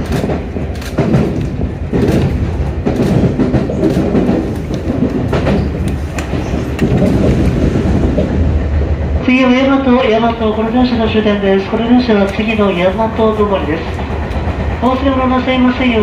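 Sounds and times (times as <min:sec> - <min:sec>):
train wheels clicking over rail joints: 0:00.0 - 0:09.2, 0:11.7 - 0:16.0
train rumble: 0:00.0 - 0:16.0.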